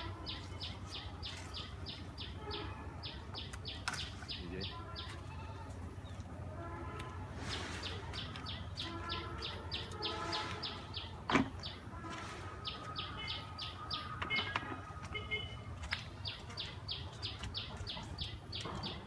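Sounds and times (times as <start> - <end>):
bird chirping: 0.2 - 5.2, 7.5 - 11.8, 12.6 - 19.0.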